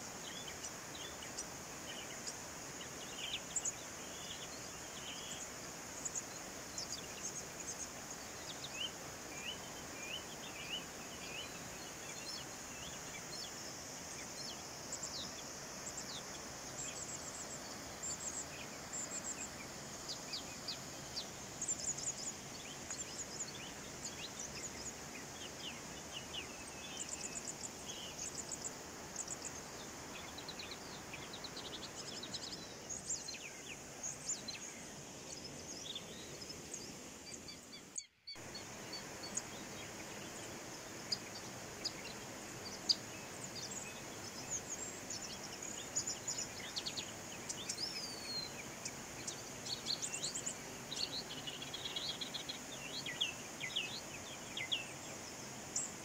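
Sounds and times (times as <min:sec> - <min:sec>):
small birds chirping: 0:00.0 - 0:56.0
stream running over rocks: 0:00.0 - 0:56.0.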